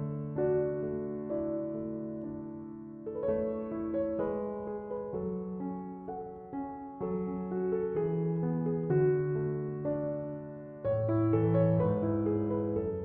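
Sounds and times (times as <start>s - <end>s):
soft slow piano music: 0.0s - 13.0s.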